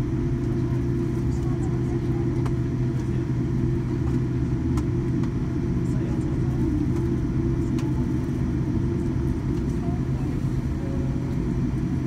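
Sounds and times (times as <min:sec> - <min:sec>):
airliner engines and gear rumbling: 0:00.0 - 0:12.0.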